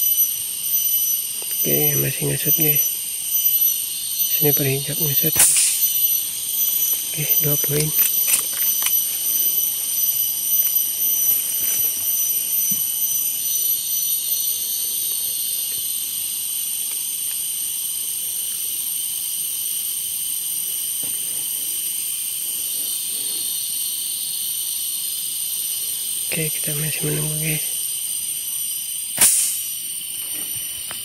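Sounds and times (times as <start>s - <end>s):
shrill insect chorus: 0.0s - 31.0s.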